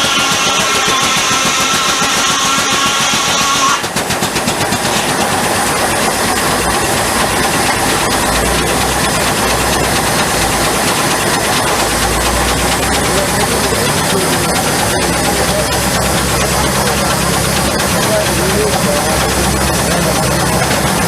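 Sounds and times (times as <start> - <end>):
sawmill machinery clatter: 0.0 - 21.0.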